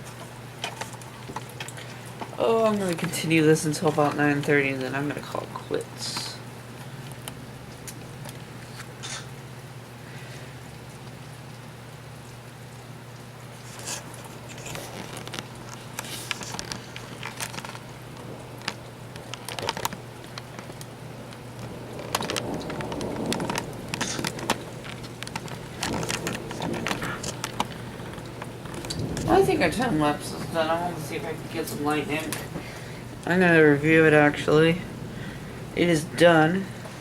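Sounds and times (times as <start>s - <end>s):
rain falling: 0.0s - 37.0s
steady low hum: 0.0s - 37.0s.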